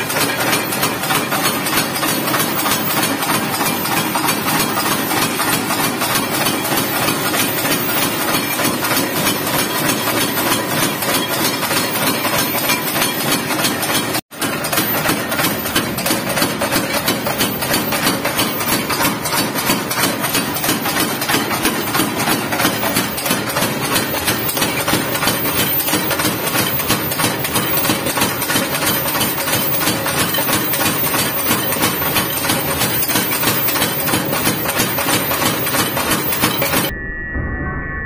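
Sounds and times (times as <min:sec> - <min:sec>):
forging hammer pounding steel: 0:00.0 - 0:36.9.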